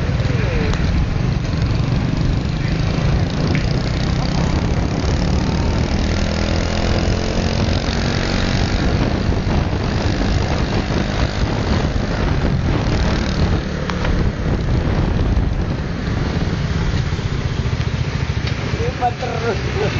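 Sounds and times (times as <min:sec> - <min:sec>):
engine and road noise: 0:00.0 - 0:19.9
motorbikes passing: 0:00.0 - 0:19.9.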